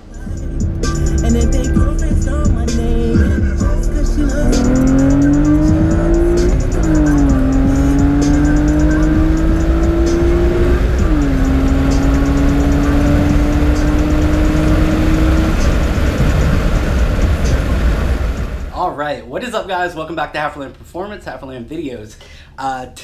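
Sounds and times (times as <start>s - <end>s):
car engine revving at full throttle: 0.0s - 18.8s.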